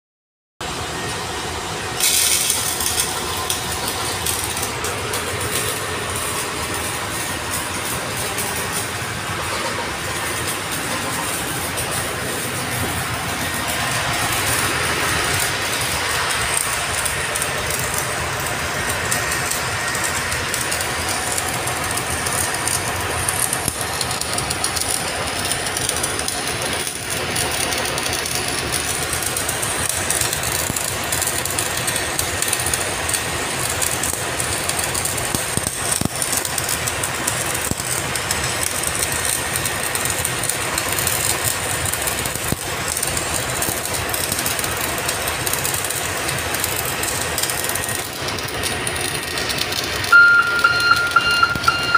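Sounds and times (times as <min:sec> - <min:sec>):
electric arc welding crackle: 0:00.6 - 0:51.9.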